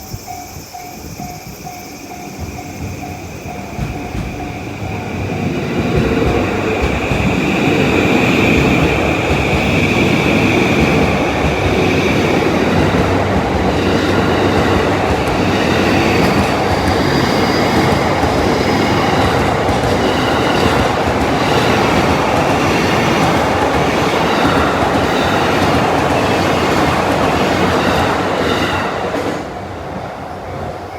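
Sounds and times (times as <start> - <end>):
electric train passing: 0.0 - 30.9.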